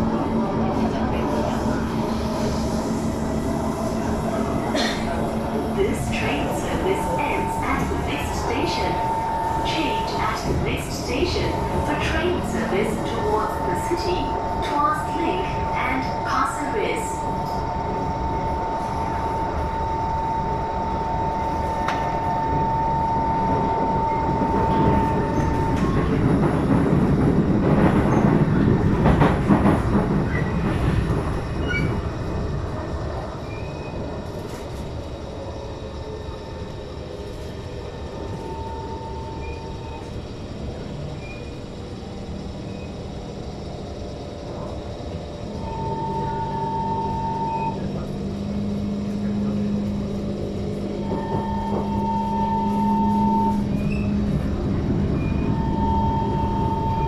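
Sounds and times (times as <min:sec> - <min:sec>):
high whine of train: 0:00.0 - 0:57.0
train rumbling on track: 0:00.0 - 0:57.0.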